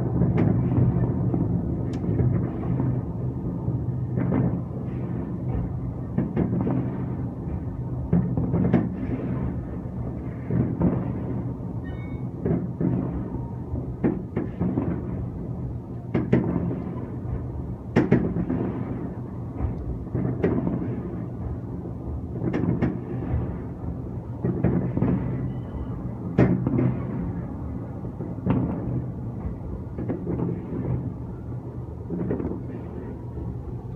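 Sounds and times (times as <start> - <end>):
fireworks booming: 0.0 - 33.9
steady low drone: 0.0 - 33.9.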